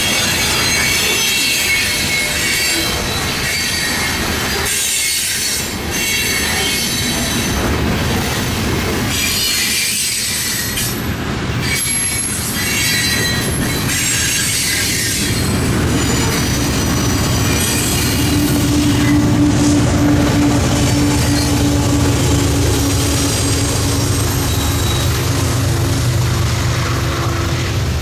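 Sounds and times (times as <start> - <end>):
train wheels squealing: 0.0 - 7.7, 9.0 - 11.0, 11.6 - 28.0
train rumbling: 0.0 - 28.0.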